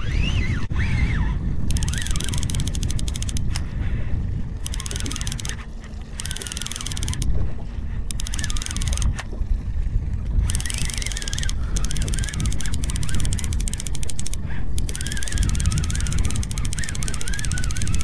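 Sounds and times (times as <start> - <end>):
fishing reel clicking and whining: 0.0 - 3.8, 4.6 - 7.3, 8.0 - 9.2, 10.4 - 18.0.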